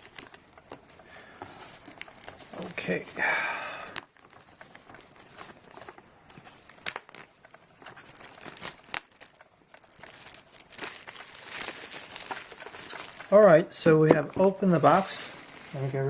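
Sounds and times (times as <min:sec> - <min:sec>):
plastic wrap tearing and crinkling: 0:00.0 - 0:16.0.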